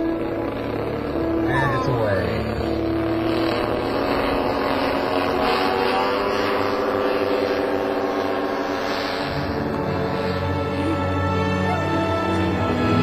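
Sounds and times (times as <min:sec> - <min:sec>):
model airplane engines droning: 0:00.0 - 0:13.0.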